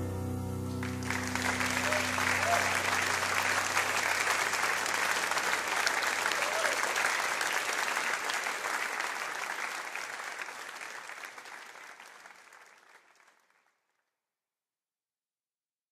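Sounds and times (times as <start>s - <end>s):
congregation applauding: 0.7s - 13.8s.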